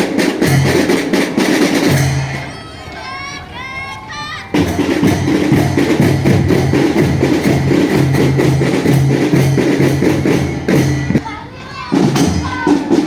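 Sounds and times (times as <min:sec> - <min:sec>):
marching drum band playing: 0:00.0 - 0:02.8, 0:04.5 - 0:13.0.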